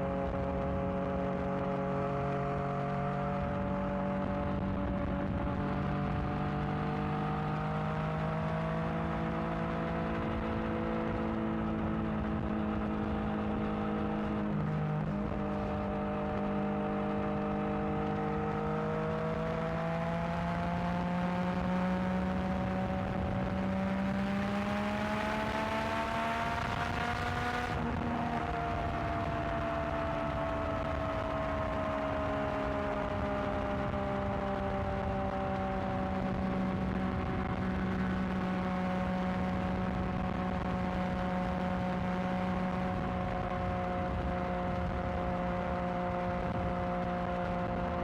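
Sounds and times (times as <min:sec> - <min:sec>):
motorcycle engine accelerating: 0:00.0 - 0:48.0.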